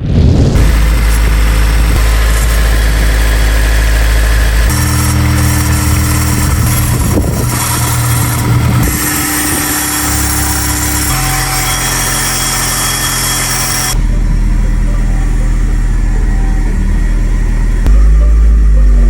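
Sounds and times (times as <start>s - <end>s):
car engine idling: 0.5s - 19.0s.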